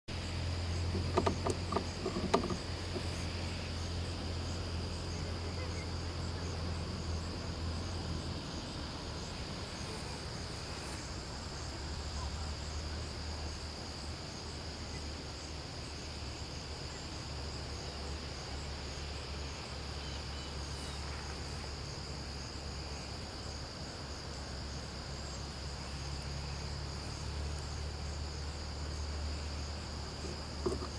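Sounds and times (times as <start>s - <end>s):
insect chorus trilling: 0.1s - 30.9s.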